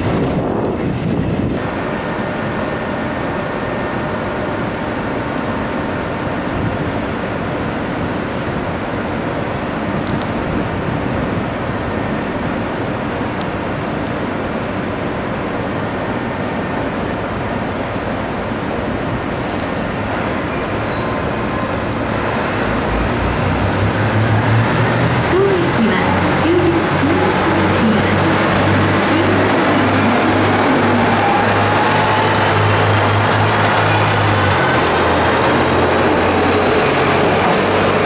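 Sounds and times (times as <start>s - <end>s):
diesel railcar rumbling: 0.0s - 38.0s.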